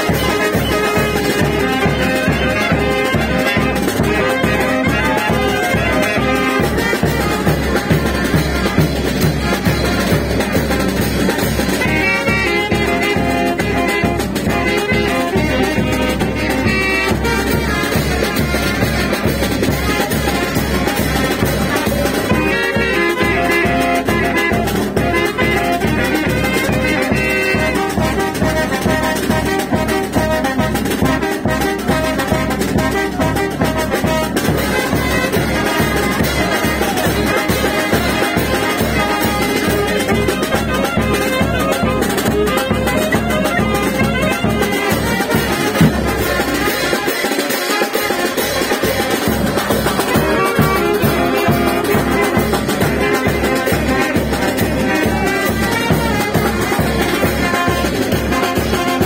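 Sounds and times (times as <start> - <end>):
brass band dance music: 0.0 - 59.0
steady drum beat: 0.0 - 59.0.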